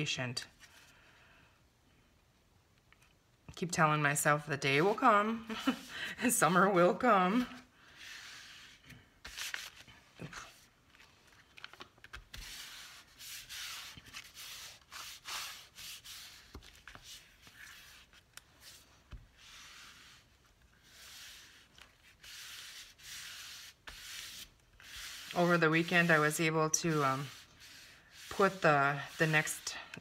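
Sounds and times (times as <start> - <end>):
hands rubbing paper: 4.7 - 30.0.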